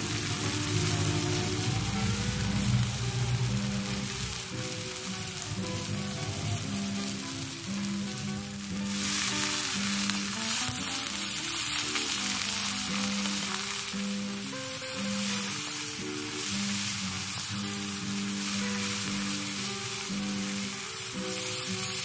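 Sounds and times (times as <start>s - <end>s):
background music: 0.0s - 22.0s
vegetables sizzling in a pan: 0.0s - 22.0s.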